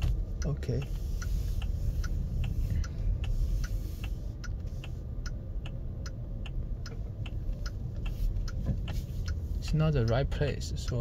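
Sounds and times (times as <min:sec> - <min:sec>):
car indicator ticking: 0:00.0 - 0:11.0
low rumble of moving car: 0:00.0 - 0:11.0.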